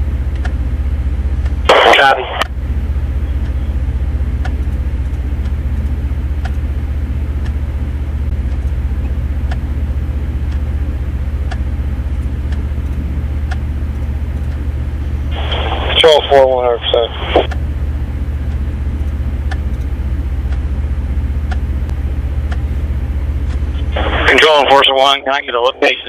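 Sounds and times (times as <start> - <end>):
faint ticking: 1.4 - 25.2.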